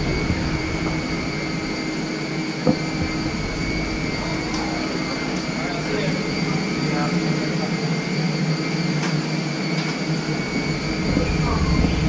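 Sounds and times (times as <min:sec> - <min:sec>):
aircraft air systems hum: 0:00.0 - 0:12.0.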